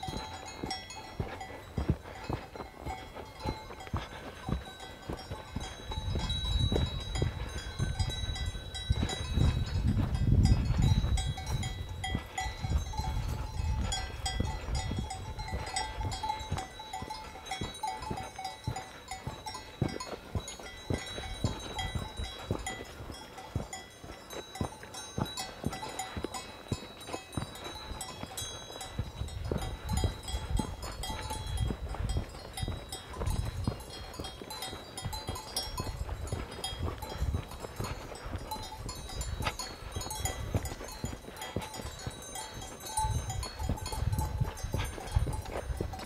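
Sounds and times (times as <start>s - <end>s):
footfalls on a trail: 0.0s - 46.0s
livestock bells clanking: 0.0s - 46.0s
wind rumble on microphone: 0.0s - 46.0s.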